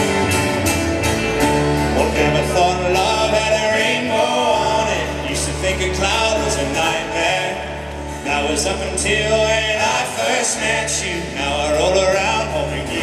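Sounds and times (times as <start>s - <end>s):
piano: 0.0s - 13.0s
strummed acoustic guitars: 0.0s - 13.0s
upright bass: 0.0s - 13.0s
people singing: 2.0s - 13.0s.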